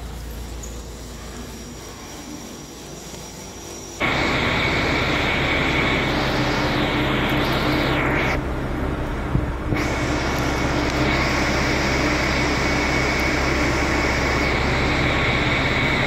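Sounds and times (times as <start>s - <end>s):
diesel railcar idling with whine: 0.0s - 16.0s
indoor room hum: 0.0s - 16.0s.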